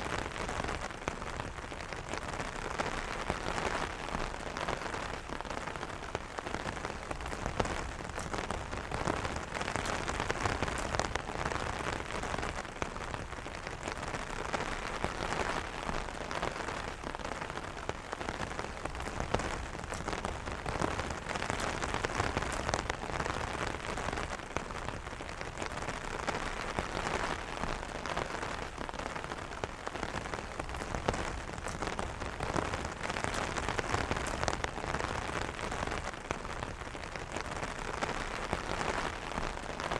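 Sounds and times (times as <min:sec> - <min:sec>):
rain pattering on umbrella: 0:00.0 - 0:39.9.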